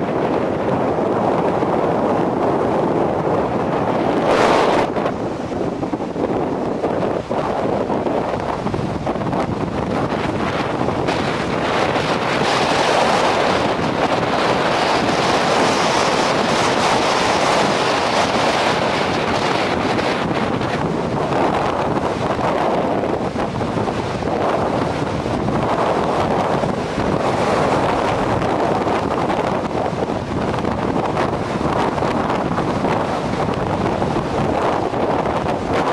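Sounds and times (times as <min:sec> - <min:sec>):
surf breaking on beach: 0:00.0 - 0:35.9
wind buffeting microphone: 0:00.0 - 0:35.9.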